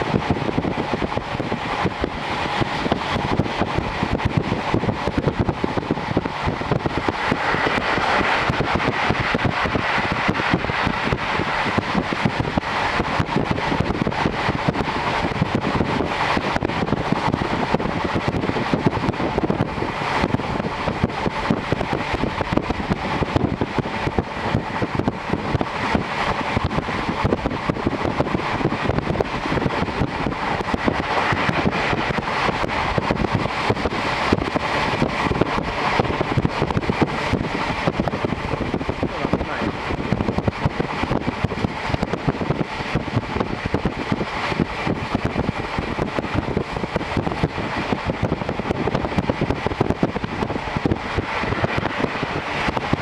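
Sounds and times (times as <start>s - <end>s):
train wheels rushing on rails: 0.0s - 53.0s
wind rushing: 0.0s - 53.0s.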